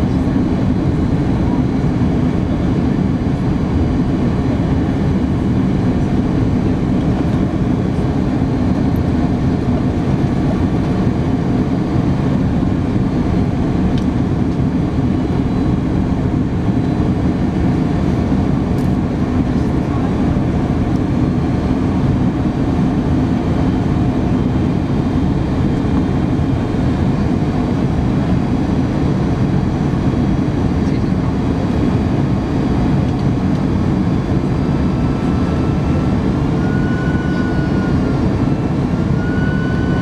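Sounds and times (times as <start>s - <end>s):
aircraft engines rumbling: 0.0s - 40.0s.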